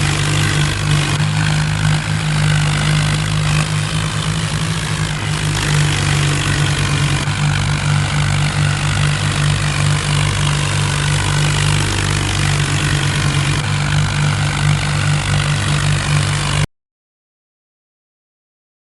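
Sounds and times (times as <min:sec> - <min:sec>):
tractor engine running: 0:00.0 - 0:16.7.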